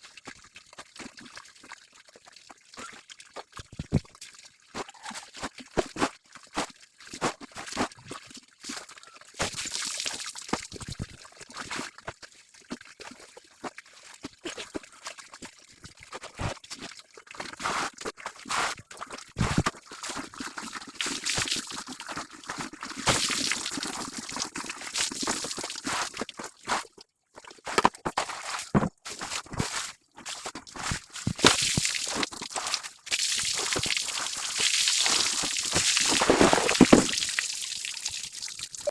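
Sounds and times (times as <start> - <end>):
water splashing and sloshing: 0.2 - 38.9.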